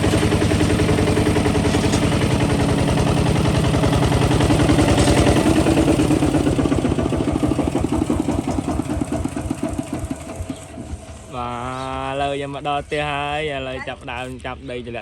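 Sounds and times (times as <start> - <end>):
diesel tractor engine chugging: 0.0 - 15.0.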